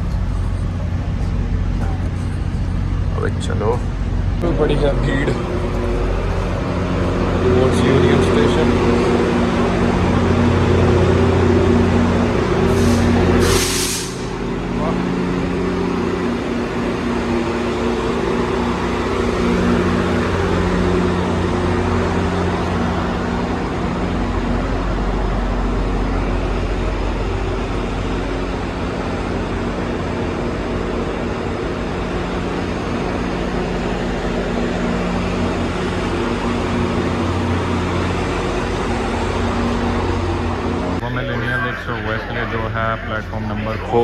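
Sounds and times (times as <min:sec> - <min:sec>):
constant wash of noise: 0:00.0 - 0:44.0
low mechanical hum: 0:00.0 - 0:44.0.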